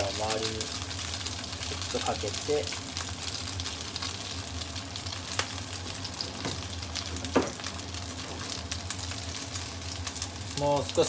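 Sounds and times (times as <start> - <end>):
dumplings sizzling in hot oil: 0.0 - 11.0.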